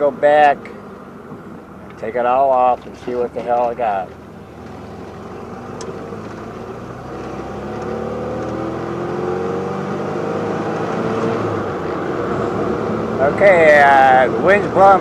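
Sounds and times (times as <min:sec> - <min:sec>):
road noise: 0:00.0 - 0:15.0
car engine accelerating: 0:00.6 - 0:15.0.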